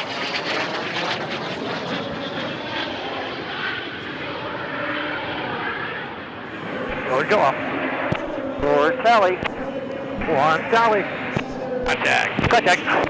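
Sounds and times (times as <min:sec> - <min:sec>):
faint whine: 0:00.0 - 0:13.0
jet engine noise: 0:00.0 - 0:13.0.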